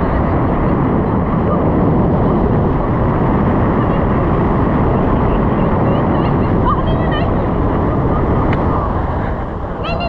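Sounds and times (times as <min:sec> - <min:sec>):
air rushing past: 0:00.0 - 0:10.0
engine and propeller drone: 0:00.0 - 0:10.0.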